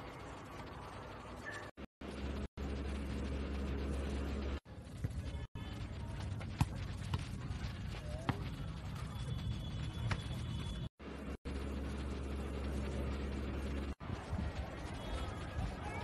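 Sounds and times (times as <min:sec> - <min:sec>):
steady low hum: 0:02.0 - 0:15.8.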